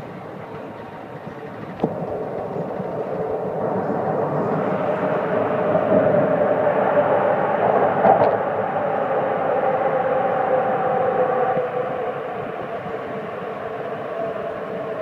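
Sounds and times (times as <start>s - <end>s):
train rumble and rushing air: 0.0s - 15.0s.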